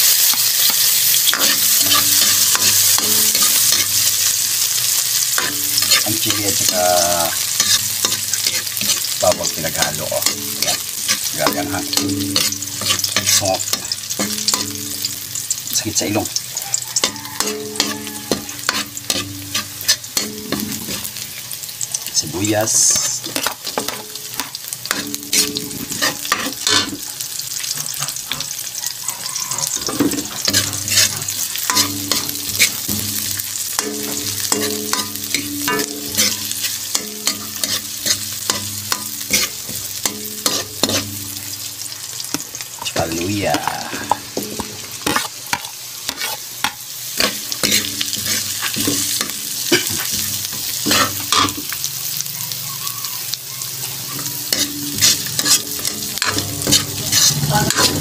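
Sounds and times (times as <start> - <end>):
metal spatula scraping a pan: 0.0 - 21.4, 22.7 - 42.5, 43.6 - 51.8, 53.9 - 58.0
food sizzling in a wok: 0.0 - 58.0.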